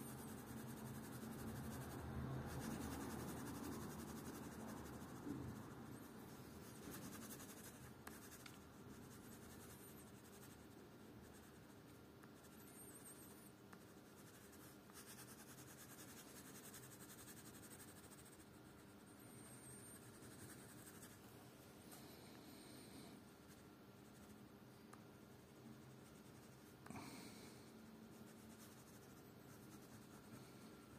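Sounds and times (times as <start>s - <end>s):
pencil scratching on paper: 0.0s - 21.2s, 25.5s - 27.0s, 28.0s - 30.9s.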